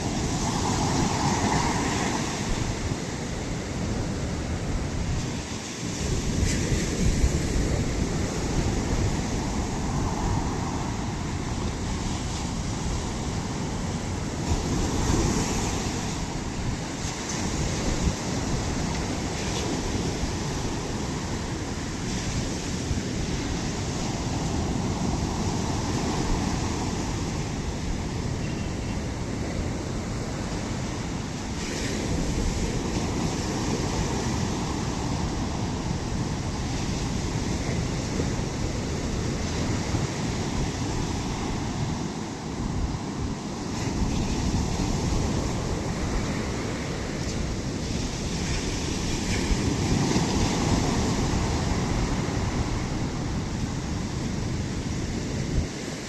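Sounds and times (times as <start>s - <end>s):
sea waves breaking on shore: 0.0s - 56.0s
wind buffeting microphone: 0.0s - 56.0s.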